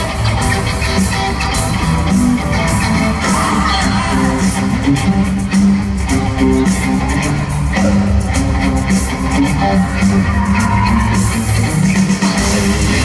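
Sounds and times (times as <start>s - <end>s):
electric guitar: 0.0s - 13.0s
live rock band playing: 0.0s - 13.0s.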